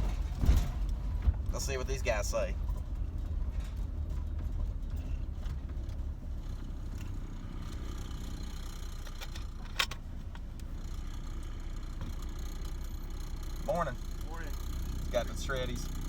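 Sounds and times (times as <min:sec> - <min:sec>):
engine running at low speed: 0:00.0 - 0:16.0.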